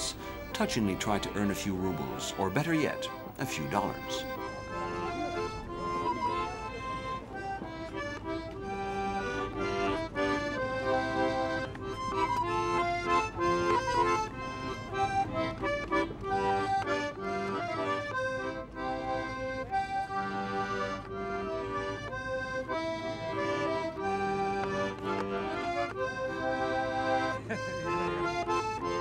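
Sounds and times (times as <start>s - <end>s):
button accordion playing a tune: 0.0s - 29.0s.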